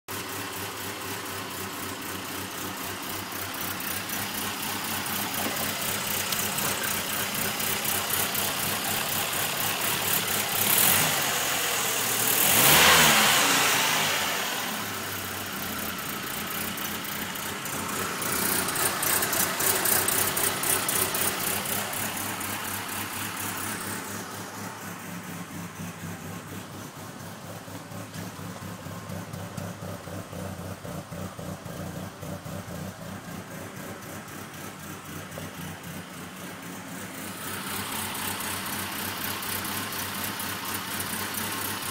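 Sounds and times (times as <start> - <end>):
car engine idling with pulsing beat: 0.1 - 11.1, 14.7 - 41.9
engine revving: 5.3 - 41.9.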